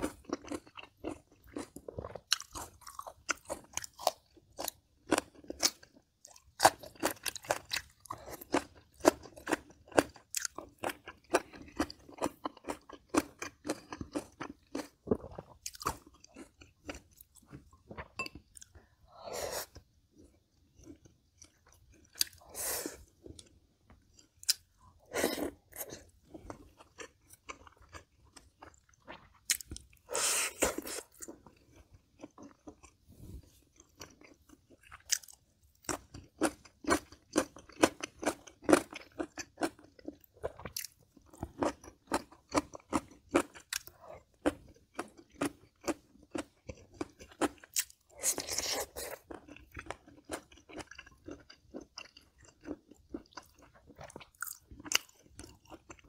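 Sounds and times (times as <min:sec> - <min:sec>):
crunchy chewing: 0:00.0 - 0:18.7, 0:19.6 - 0:56.0.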